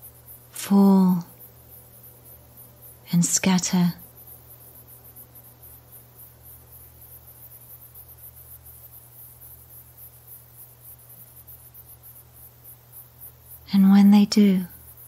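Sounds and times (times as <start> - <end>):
insect-like chirring: 0.0 - 15.0
low steady hum: 0.0 - 15.0.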